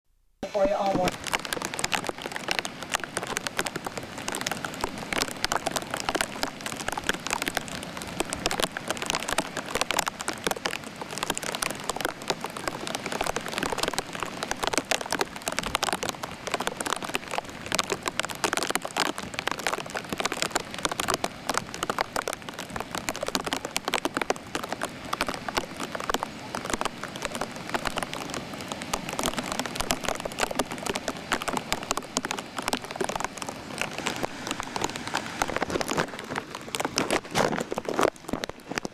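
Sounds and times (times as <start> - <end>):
heavy rain falling: 0.4 - 38.9.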